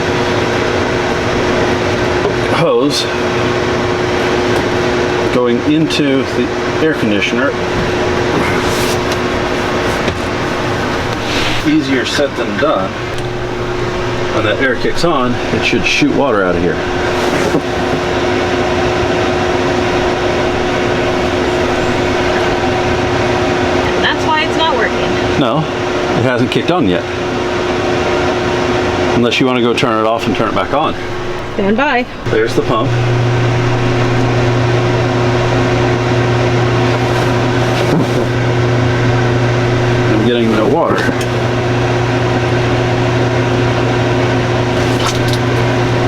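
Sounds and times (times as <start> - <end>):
air conditioning unit hum: 0.0 - 46.0.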